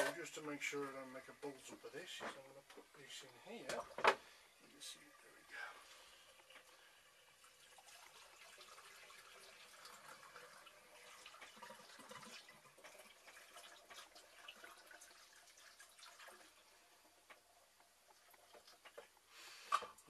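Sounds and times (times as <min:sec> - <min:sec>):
liquid trickling and splashing: 0:02.9 - 0:20.0.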